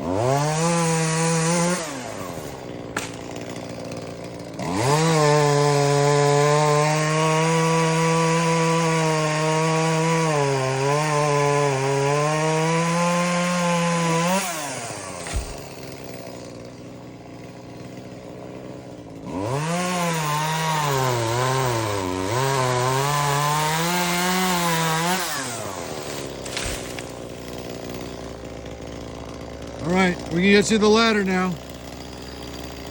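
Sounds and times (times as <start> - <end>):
chainsaw revving and cutting: 0.0 - 32.9.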